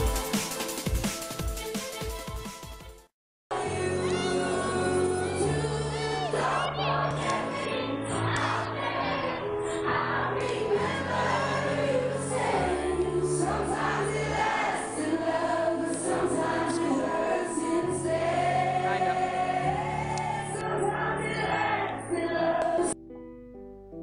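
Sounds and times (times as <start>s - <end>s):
group of voices singing: 3.6s - 23.0s.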